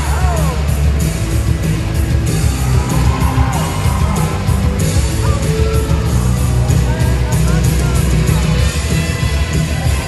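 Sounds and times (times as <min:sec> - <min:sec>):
loud music with heavy bass: 0:00.0 - 0:10.0.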